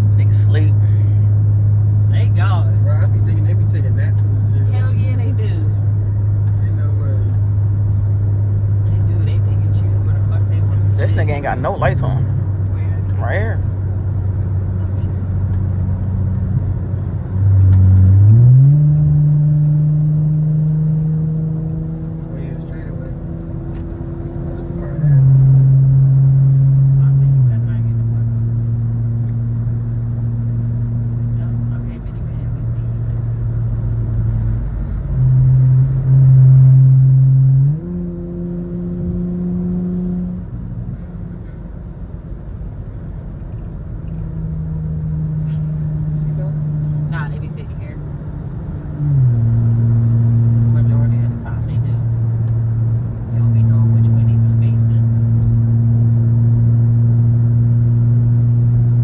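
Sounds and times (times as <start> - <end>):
car engine droning: 0.0 - 59.0
low road noise: 0.0 - 59.0.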